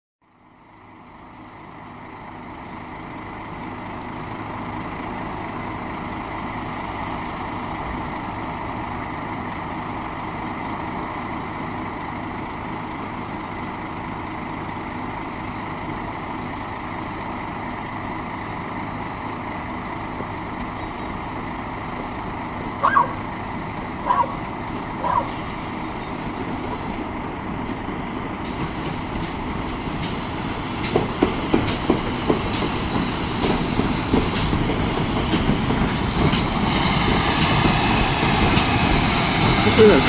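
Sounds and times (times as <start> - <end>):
diesel engine idling: 0.2 - 40.0.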